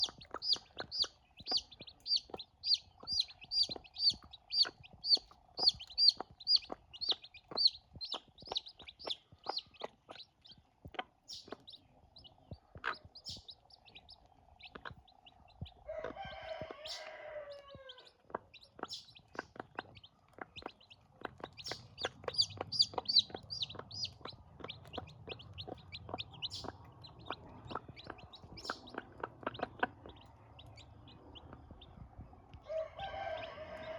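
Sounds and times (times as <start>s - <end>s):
chicks peeping: 0.0s - 33.9s.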